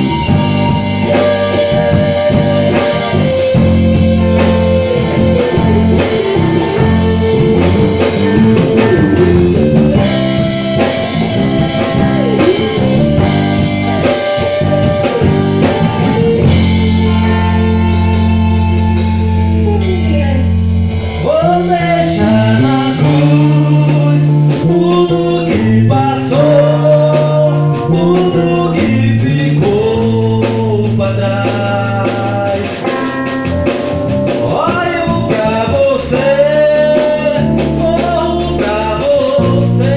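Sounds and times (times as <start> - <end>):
person singing: 0.0 - 33.7, 34.3 - 39.9
drums: 0.0 - 39.9
electric bass: 0.0 - 39.9
guitar: 0.0 - 39.9.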